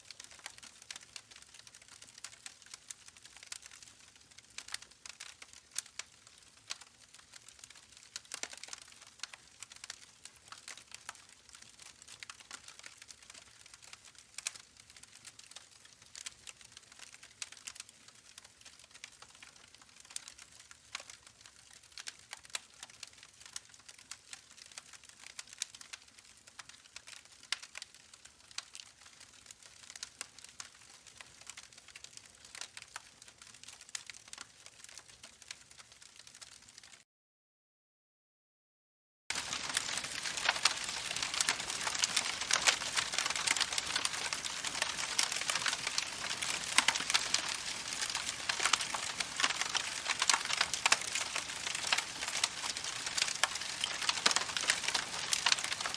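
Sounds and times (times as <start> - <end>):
campfire crackling: 0.0 - 37.0, 39.3 - 55.9.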